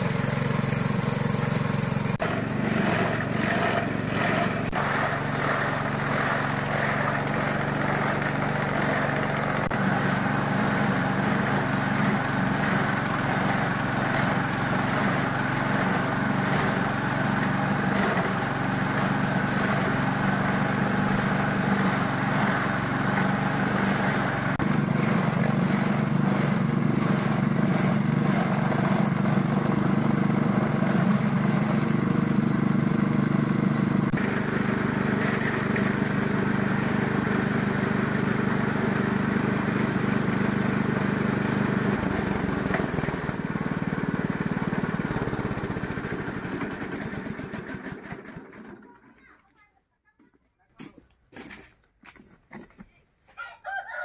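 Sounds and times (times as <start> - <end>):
chopper shredding stalks: 0.0 - 48.9
small petrol engine running: 0.0 - 49.4.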